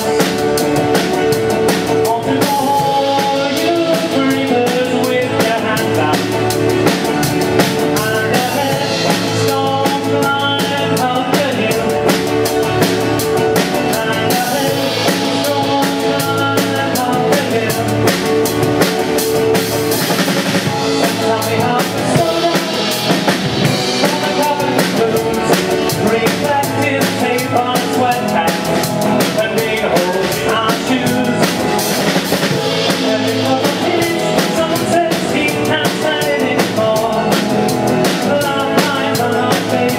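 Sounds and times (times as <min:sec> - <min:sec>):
acoustic guitars: 0:00.0 - 0:39.9
drum kit steady beat: 0:00.0 - 0:39.9
electric bass: 0:00.0 - 0:39.9.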